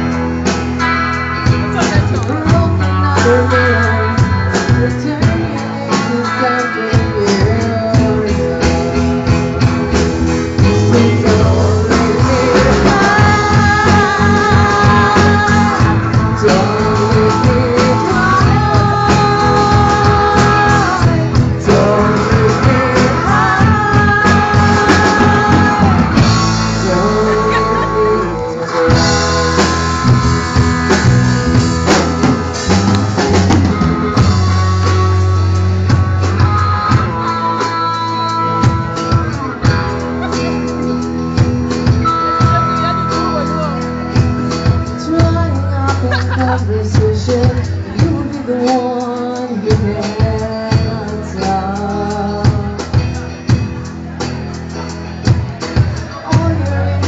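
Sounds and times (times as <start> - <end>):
rock music with drums and guitar: 0.0 - 57.0.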